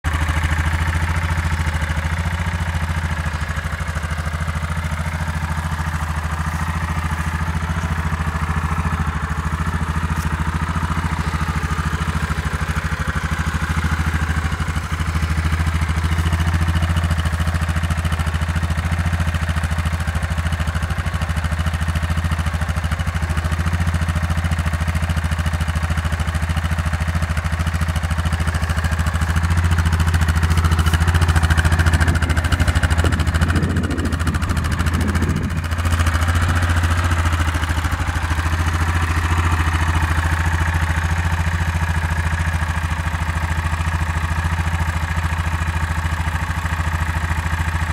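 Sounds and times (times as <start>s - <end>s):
atv engine idling: 0.0s - 47.9s.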